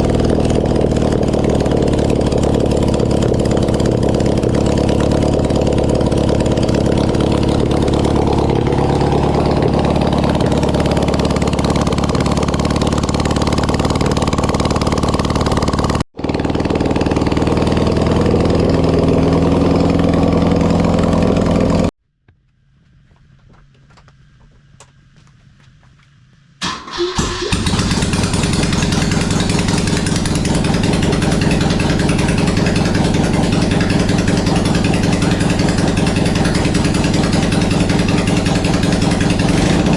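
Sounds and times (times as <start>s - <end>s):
motorcycle engine running: 0.0s - 21.9s, 26.9s - 39.9s.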